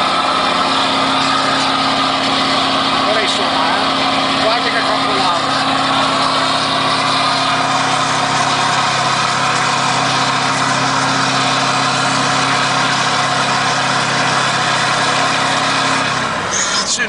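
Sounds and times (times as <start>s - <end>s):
truck diesel engine drone: 0.0s - 17.0s.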